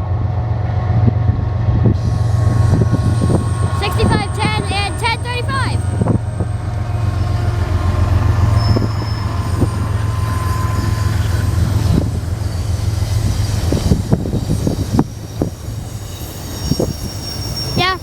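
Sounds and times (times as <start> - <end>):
locomotive engines droning: 0.0 - 18.0
wheel squeal: 1.8 - 18.0.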